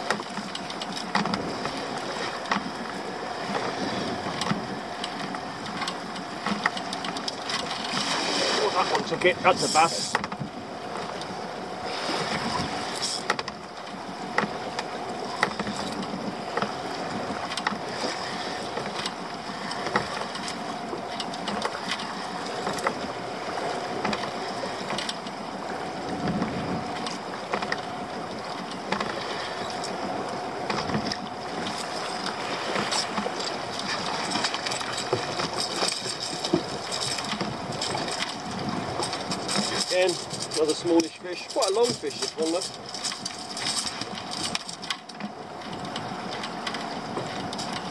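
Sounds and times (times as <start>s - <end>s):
sea noise: 0.0s - 47.9s
water splashes: 0.0s - 47.9s
wind: 0.0s - 47.9s.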